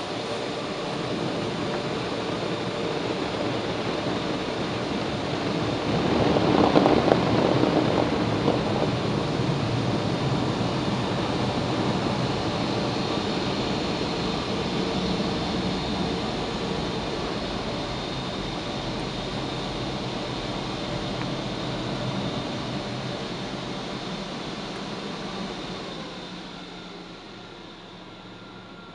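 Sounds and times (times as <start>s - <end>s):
blower dryers rushing air: 0.0s - 28.9s.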